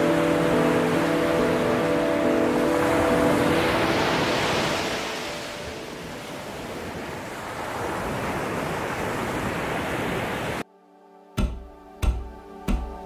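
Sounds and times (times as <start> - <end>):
waves breaking on rocky shore: 0.0 - 10.6.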